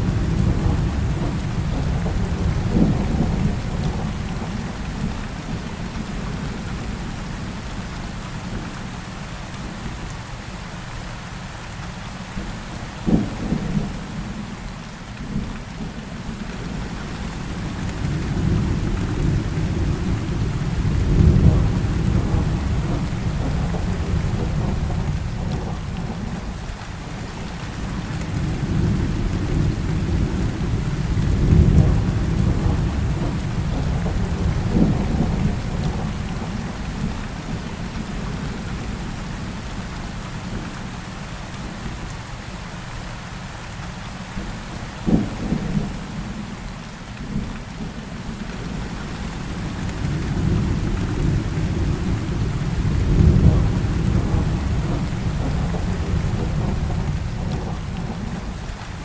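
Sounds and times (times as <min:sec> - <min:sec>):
thunder crack and rumbles: 0:00.0 - 0:07.3, 0:12.4 - 0:14.5, 0:15.2 - 0:40.8, 0:44.4 - 0:59.0
heavy rain falling: 0:00.0 - 0:59.0.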